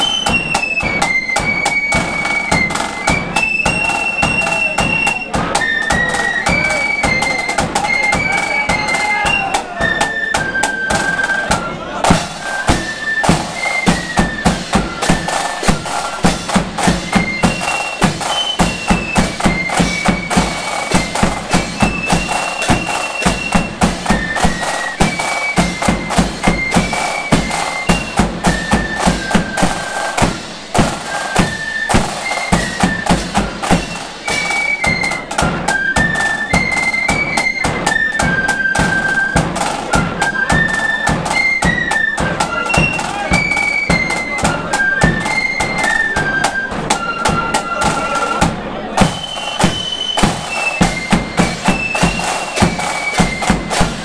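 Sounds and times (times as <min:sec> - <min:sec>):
shrill flutes march melody: 0:00.0 - 0:54.0
snare drum rolls: 0:00.0 - 0:54.0.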